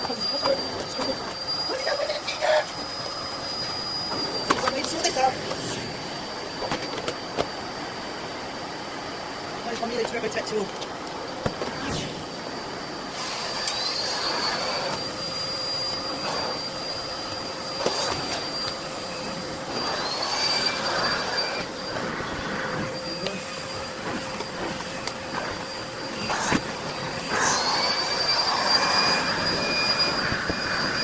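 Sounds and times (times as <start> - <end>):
vacuum cleaner motor whine: 0.0 - 31.0
vacuum suction rushing: 2.5 - 9.5, 11.3 - 31.0.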